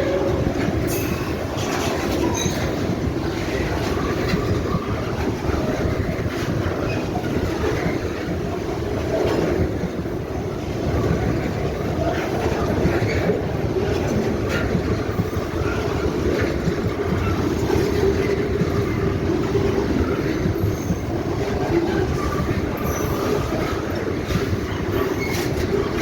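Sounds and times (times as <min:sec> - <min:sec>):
train wheels rumbling on rails: 0:00.0 - 0:26.0
wheels clicking over track: 0:00.0 - 0:26.0.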